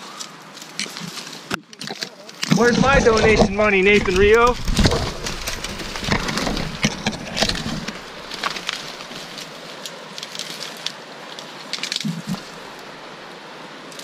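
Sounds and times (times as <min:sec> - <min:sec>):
twigs crackling and snapping: 0:00.0 - 0:13.1.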